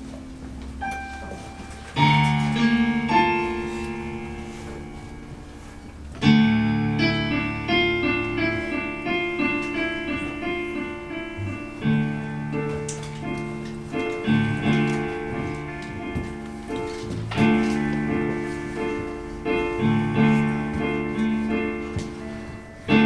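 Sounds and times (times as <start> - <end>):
piano chords and notes: 0.0 - 23.0.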